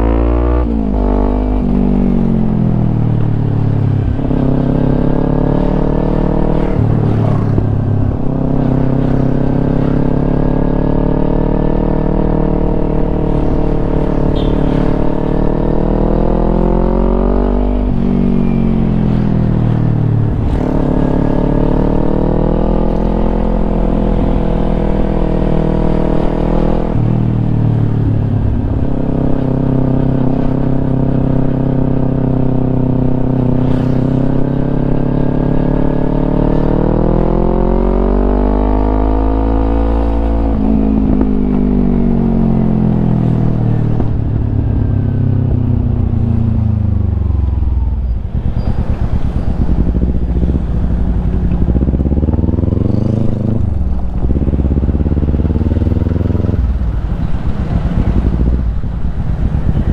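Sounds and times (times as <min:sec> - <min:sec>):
motorcycle accelerating through gears: 0:00.0 - 0:59.9.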